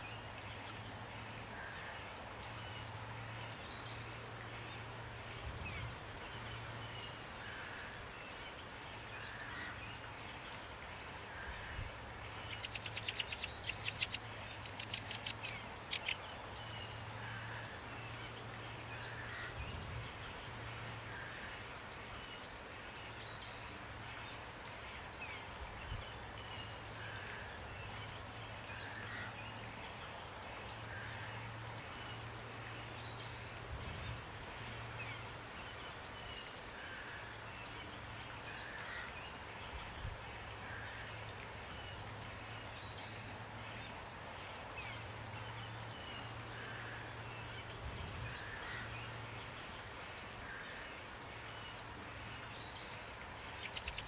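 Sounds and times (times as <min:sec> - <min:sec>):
rain hiss: 0:00.0 - 0:54.0
songbirds chirping and trilling: 0:00.0 - 0:54.0.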